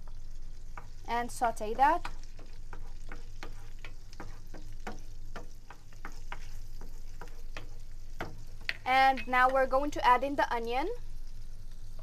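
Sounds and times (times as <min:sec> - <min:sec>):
garlic sizzling and crackling in a pan: 0:00.0 - 0:12.0.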